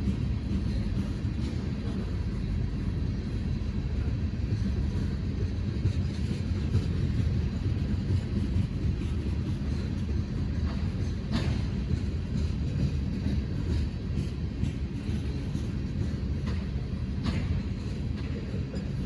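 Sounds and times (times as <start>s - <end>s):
train rolling on rails: 0.0s - 19.0s.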